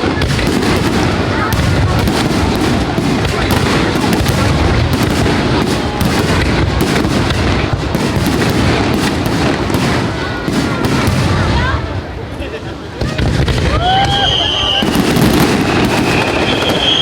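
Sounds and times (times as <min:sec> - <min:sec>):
fireworks booming and crackling: 0:00.0 - 0:17.0.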